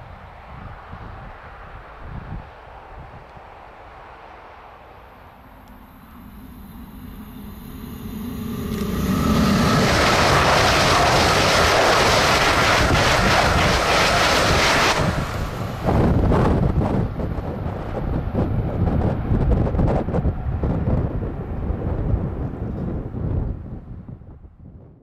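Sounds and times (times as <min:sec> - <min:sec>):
wind buffeting microphone: 0:00.0 - 0:04.2, 0:05.0 - 0:25.0
high-speed train passing: 0:00.0 - 0:24.3.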